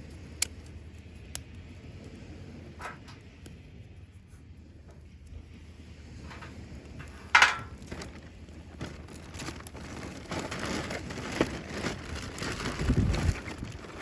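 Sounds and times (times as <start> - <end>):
firewood crackling and snapping: 0.1 - 3.6, 6.0 - 14.0.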